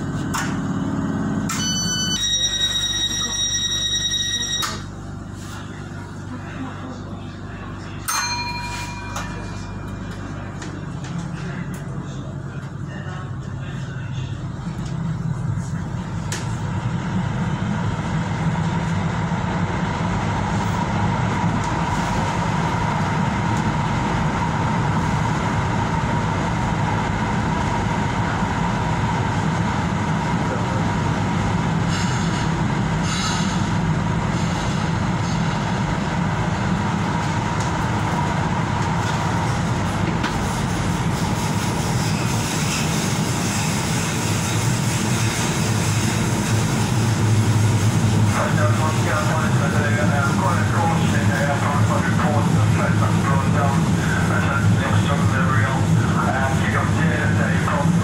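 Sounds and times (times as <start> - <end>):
steady train whine: 0.0 - 58.0
train wheels rumbling on rail: 8.1 - 58.0.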